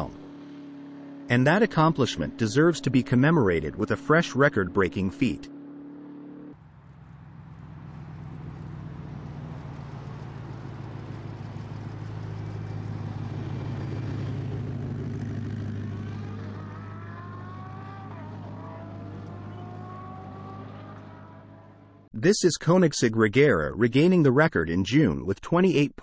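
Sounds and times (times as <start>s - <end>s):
car driving at high speed: 0.0s - 22.1s.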